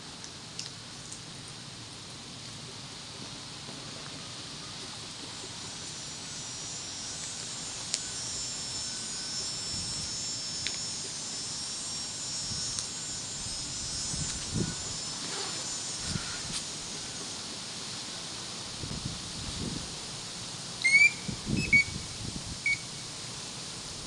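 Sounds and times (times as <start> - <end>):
outdoor hiss with high drone: 0.0 - 24.0.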